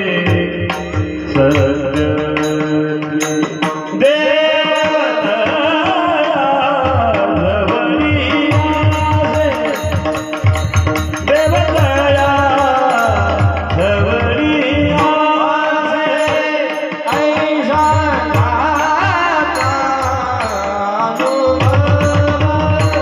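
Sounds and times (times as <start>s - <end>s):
person singing devotional chant: 0.0s - 23.0s.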